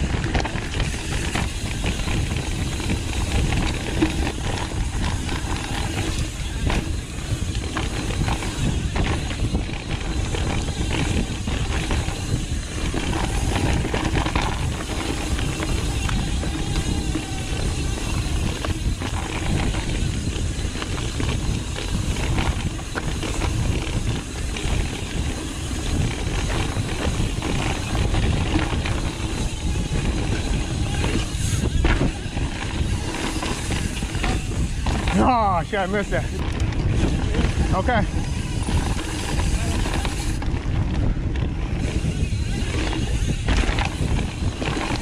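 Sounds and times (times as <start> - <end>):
bike clicks and rattles: 0.0 - 45.0
tyres rolling over dirt: 0.0 - 45.0
wind rumble on microphone: 0.0 - 45.0.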